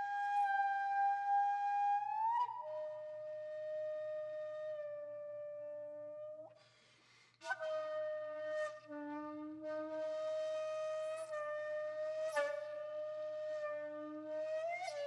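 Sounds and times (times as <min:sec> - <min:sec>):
flute music: 0:00.0 - 0:06.5, 0:07.4 - 0:15.0.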